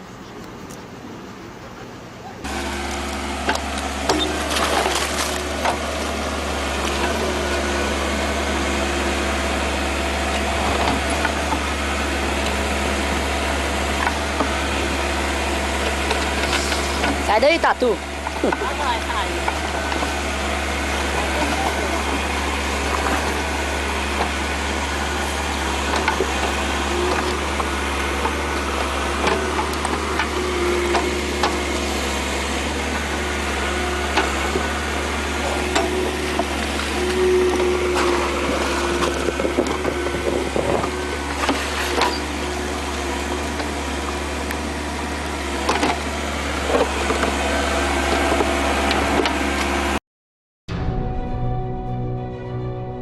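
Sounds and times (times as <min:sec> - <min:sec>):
heavy machinery engine hum: 0:00.0 - 0:50.0.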